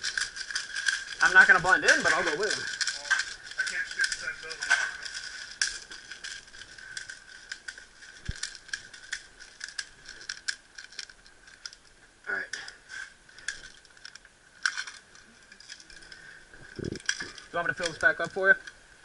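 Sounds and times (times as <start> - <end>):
gear clicking and rattling: 0.0 - 18.8.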